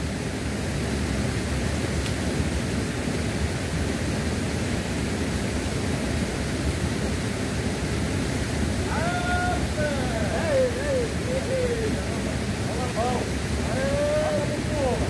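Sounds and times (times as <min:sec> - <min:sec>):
fast-flowing river water: 0:00.0 - 0:15.0
waterfall rushing: 0:00.0 - 0:15.0.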